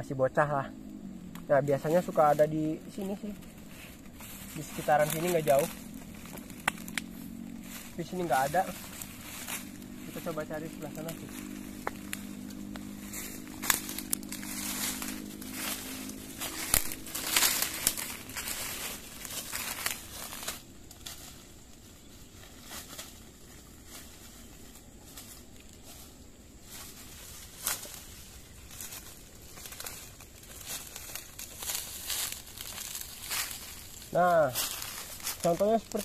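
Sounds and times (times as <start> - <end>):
stems and leaves brushing: 0.0 - 36.0
footsteps crunching through dry leaves: 0.8 - 36.0.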